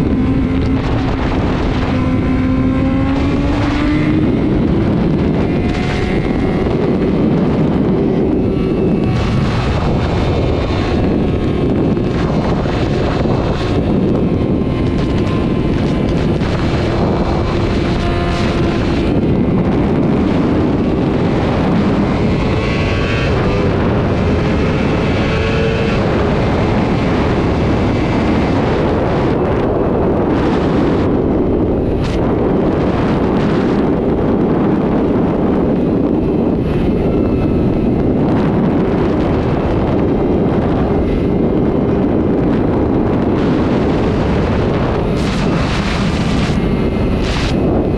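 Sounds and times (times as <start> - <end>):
motorcycle engine at speed: 0.0 - 47.9
wind buffeting microphone: 0.0 - 47.9.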